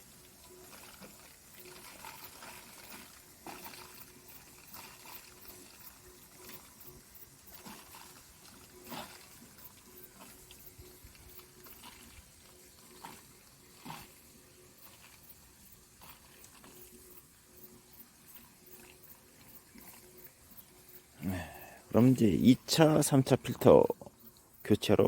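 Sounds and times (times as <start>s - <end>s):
small drips and clicks: 0.0s - 22.0s, 23.8s - 25.0s
faint water trickle: 0.0s - 25.0s.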